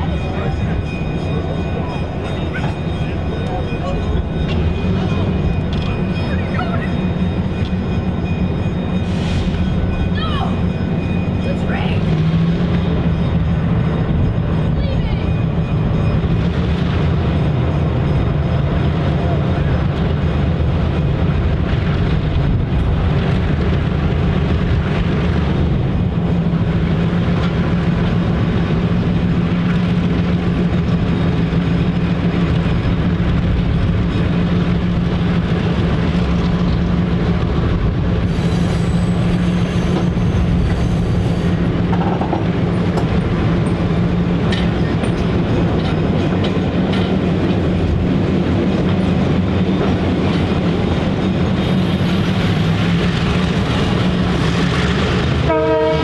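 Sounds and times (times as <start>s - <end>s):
diesel locomotive engine drone: 0.0s - 56.0s
train running on rails: 0.0s - 56.0s.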